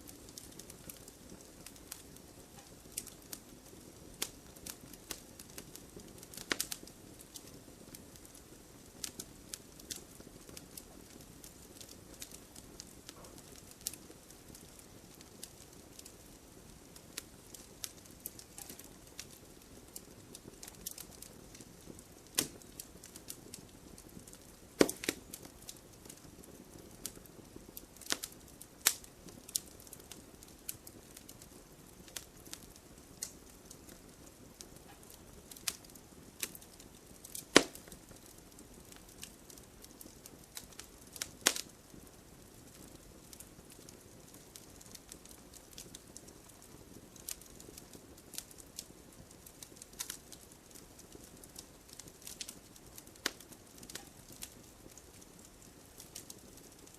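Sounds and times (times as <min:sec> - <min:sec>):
fire crackling and popping: 0:00.0 - 0:56.9
low rumble of fire: 0:00.0 - 0:56.9.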